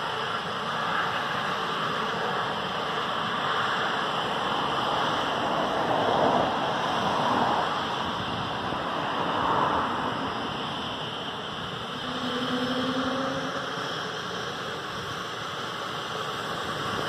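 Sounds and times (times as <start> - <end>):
helicopter engine and rotor rush: 0.0 - 17.0
helicopter turbine whine: 0.0 - 17.0.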